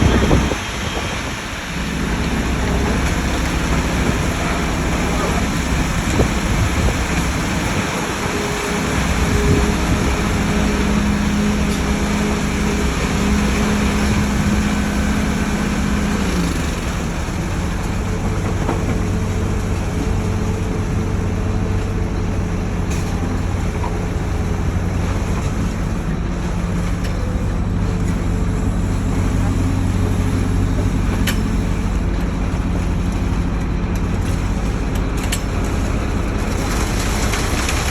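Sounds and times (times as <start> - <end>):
heavy diesel machinery running: 0.0 - 37.9.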